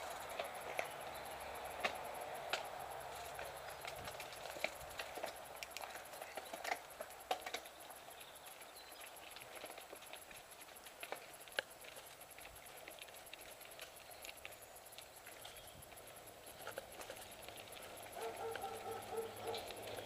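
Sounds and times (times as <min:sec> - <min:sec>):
bike rattling over stones: 0:00.0 - 0:20.0.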